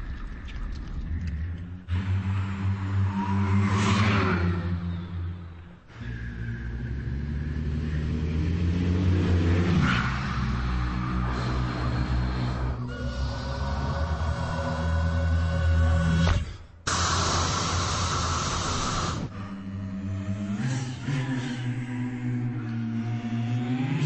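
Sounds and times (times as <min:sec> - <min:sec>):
choir humming low notes: 0:01.0 - 0:24.0.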